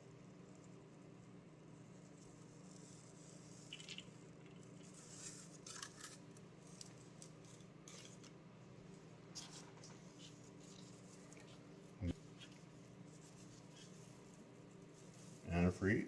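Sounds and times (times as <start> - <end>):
low room hum: 0.0 - 16.0
faint handling clicks and rustles: 0.2 - 15.5.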